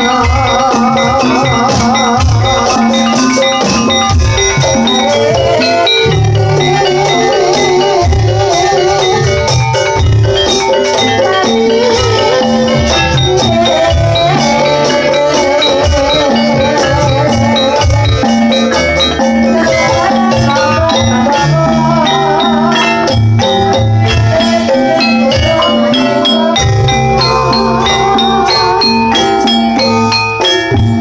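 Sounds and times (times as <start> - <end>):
drum strokes: 0.0 - 31.0
metallophones ringing: 0.0 - 31.0
wavering melody line: 0.0 - 31.0.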